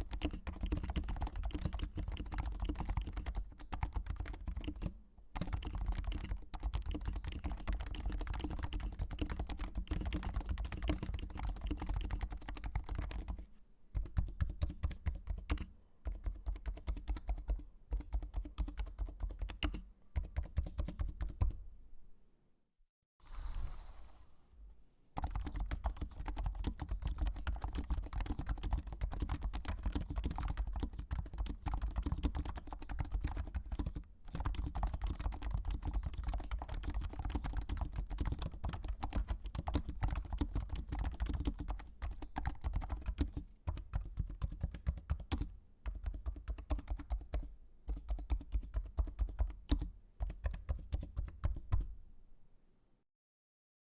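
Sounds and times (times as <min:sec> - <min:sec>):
muted keyboard typing: 0:00.0 - 0:21.6, 0:25.2 - 0:52.0.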